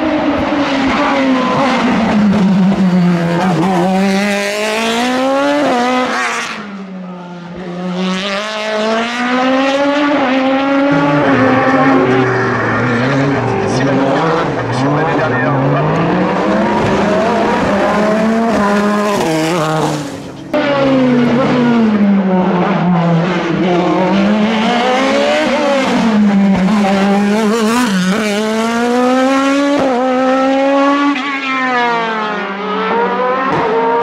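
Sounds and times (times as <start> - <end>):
racing car engines revving: 0.0 - 34.0.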